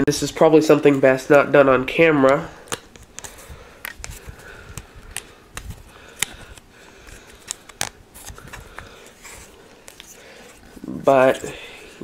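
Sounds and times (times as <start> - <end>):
handling rustle: 2.3 - 12.0.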